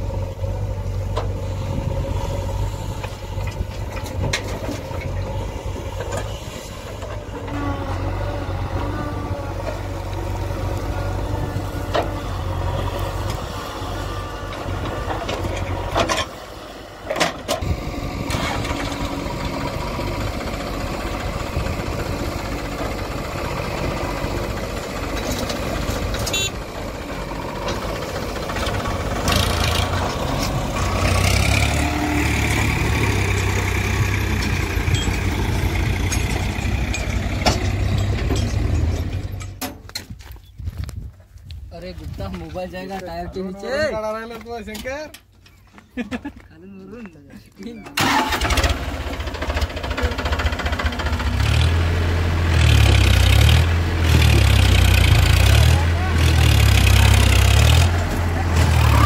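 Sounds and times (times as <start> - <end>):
diesel digger engine working: 0.0 - 40.5, 47.4 - 59.0
falling earth: 0.0 - 43.9, 45.3 - 59.0.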